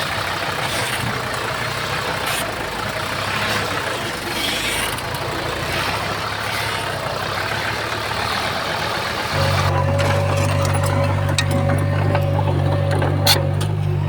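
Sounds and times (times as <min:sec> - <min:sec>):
heavy machine diesel engine running: 0:00.0 - 0:14.0.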